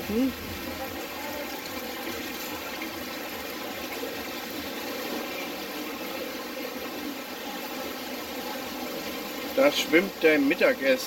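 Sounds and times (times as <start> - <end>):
water pouring into tanks: 0.0 - 11.0.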